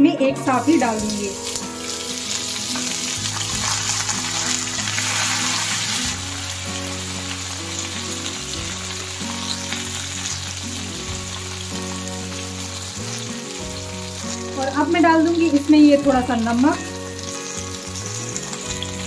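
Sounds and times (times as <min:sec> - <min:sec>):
background music with held notes: 0:00.0 - 0:19.0
vegetables sizzling in hot oil: 0:00.4 - 0:19.0.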